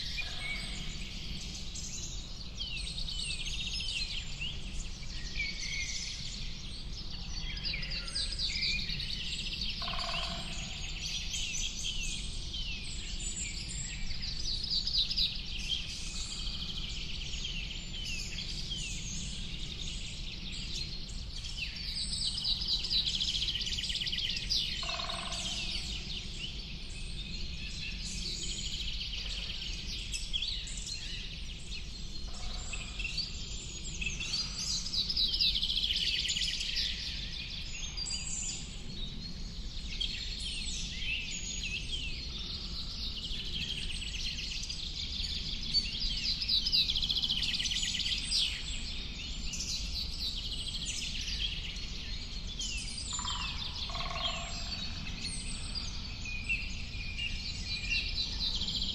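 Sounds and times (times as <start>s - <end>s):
birds chirping and trilling: 7.6s - 12.1s, 14.5s - 58.9s.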